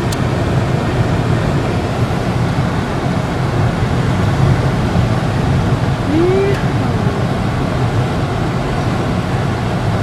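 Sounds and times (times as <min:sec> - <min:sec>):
car road noise inside cabin: 0:00.0 - 0:10.0.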